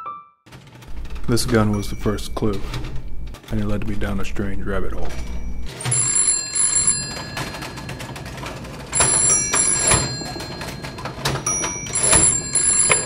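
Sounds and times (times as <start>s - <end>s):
telephone ringing: 0.5s - 3.6s, 4.9s - 13.0s.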